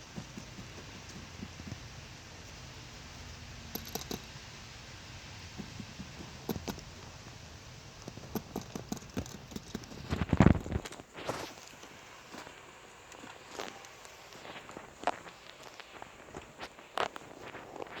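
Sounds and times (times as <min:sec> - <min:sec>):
guinea pigs eating and rustling: 0:00.0 - 0:18.0.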